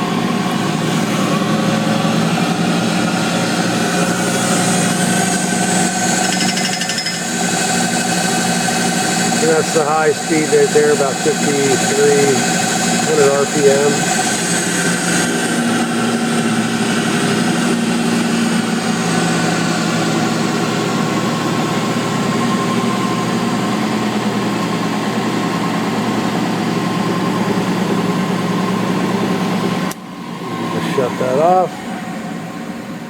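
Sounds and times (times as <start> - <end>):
drill press motor hum: 0.0 - 33.0.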